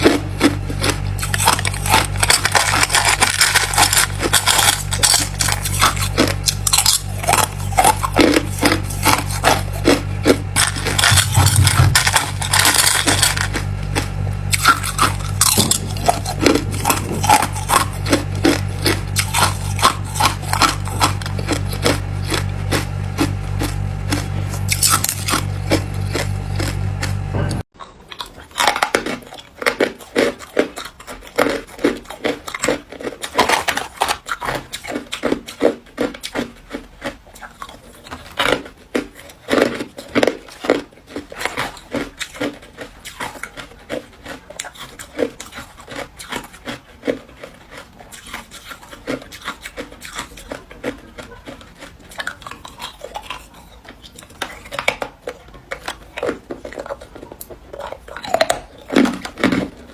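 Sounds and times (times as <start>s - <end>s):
ice crunching between teeth: 0.0s - 59.9s.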